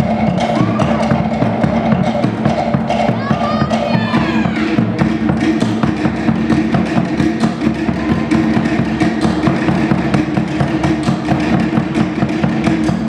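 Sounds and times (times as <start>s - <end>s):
drum ensemble playing fast beat: 0.0s - 13.0s
wooden percussion: 0.0s - 13.0s.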